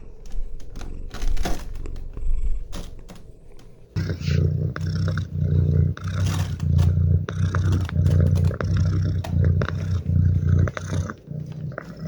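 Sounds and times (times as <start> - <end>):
small clicks: 0.0 - 10.8
cat purring: 0.0 - 12.0.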